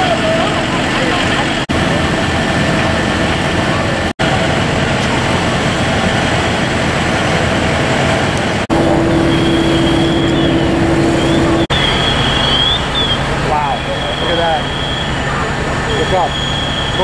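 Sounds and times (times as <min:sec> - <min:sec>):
fire engines droning: 0:00.0 - 0:17.0
mid-pitched hum: 0:00.0 - 0:17.0.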